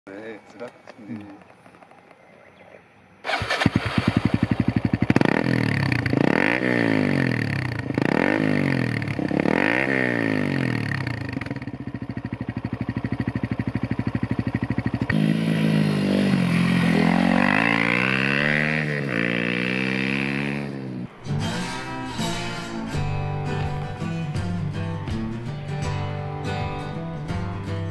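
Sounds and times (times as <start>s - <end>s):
motorcycle engine revving: 3.2s - 27.9s.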